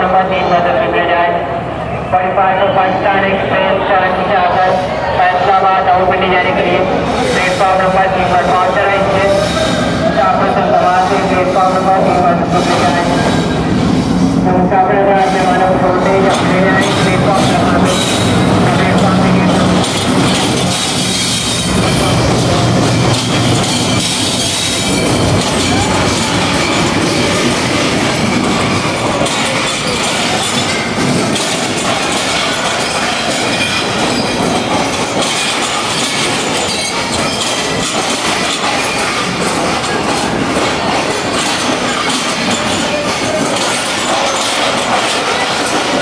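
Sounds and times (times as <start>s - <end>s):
locomotive engine hum: 0.0s - 46.0s
train wheels on rails: 0.0s - 46.0s.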